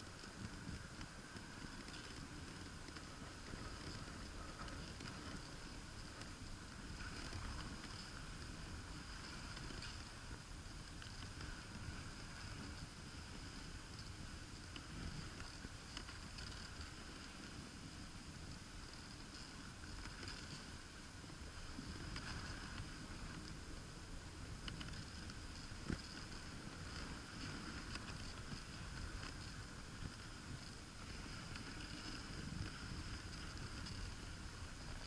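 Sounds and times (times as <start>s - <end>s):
faint ticks: 0.0s - 35.0s.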